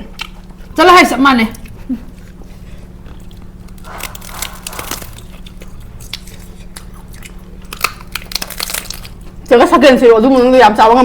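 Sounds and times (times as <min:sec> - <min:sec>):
chewing crunchy food: 0:00.0 - 0:00.8, 0:01.4 - 0:09.5.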